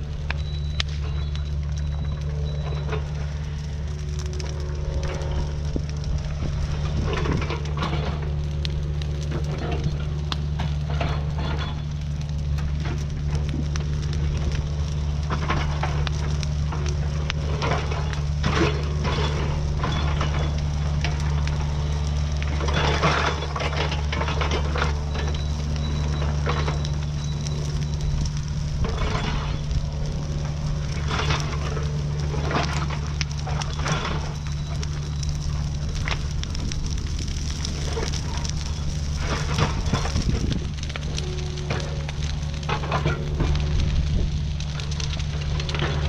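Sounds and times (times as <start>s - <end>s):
diesel engine running: 0.0s - 46.0s
excavator scraping and clatter: 0.0s - 46.0s.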